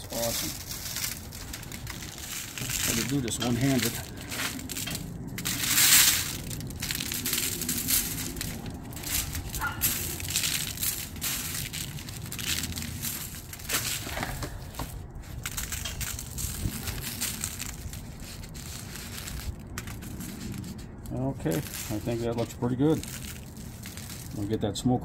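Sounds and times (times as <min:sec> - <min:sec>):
aluminium foil crinkling: 0:00.0 - 0:25.0
seasoning being shaken: 0:02.1 - 0:14.0, 0:15.3 - 0:24.5.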